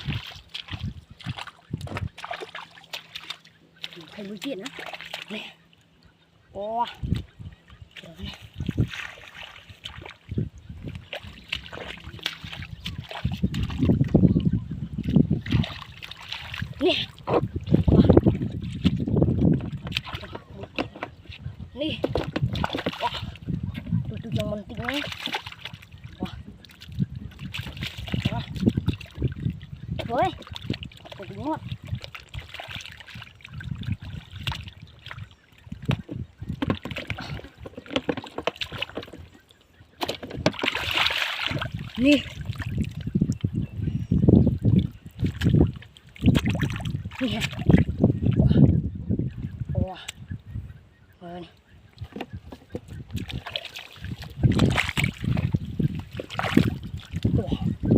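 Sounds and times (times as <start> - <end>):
splashing in muddy water: 0.0 - 6.0, 6.6 - 50.3, 51.2 - 57.9.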